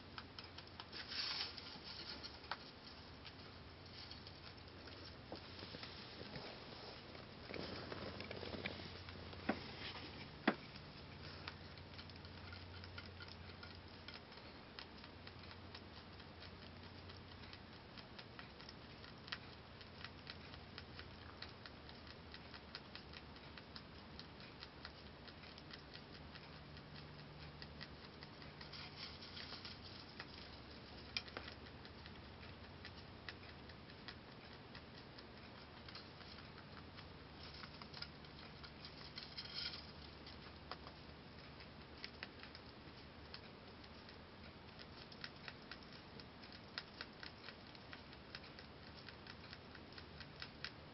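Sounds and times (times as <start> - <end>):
rabbit chewing hay: 0.0 - 50.9.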